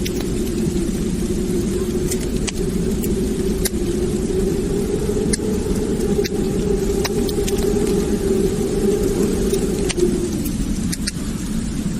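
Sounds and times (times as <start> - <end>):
fire crackles and pops: 0.0 - 11.9
low roar of flames: 0.0 - 11.9.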